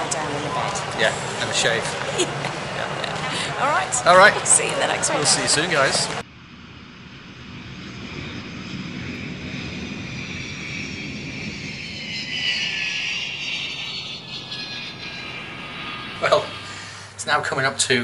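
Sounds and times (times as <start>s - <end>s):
jet engines rushing: 0.0s - 17.4s
high engine whine: 0.0s - 18.0s.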